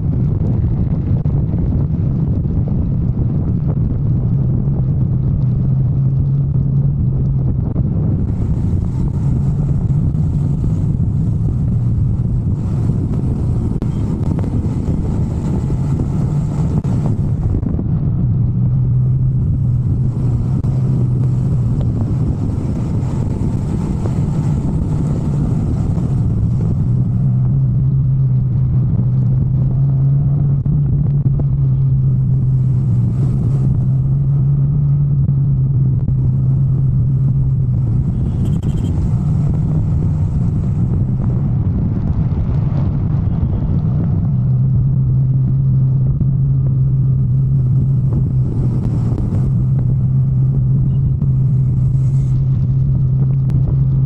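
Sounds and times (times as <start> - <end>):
motorcycle engine cruising: 0.0 - 54.0
wind and road hiss: 0.0 - 54.0.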